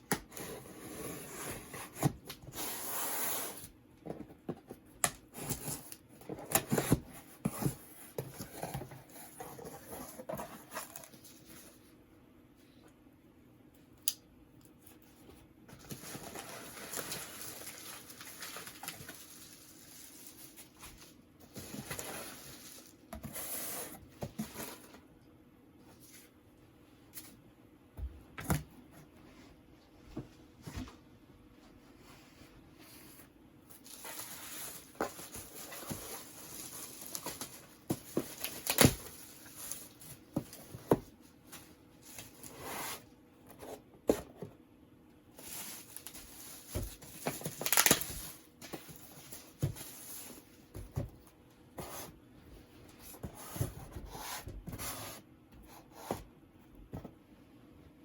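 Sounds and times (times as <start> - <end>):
rustling and handling noises: 0.2 - 12.9, 14.6 - 25.2, 25.8 - 27.5, 28.2 - 57.4.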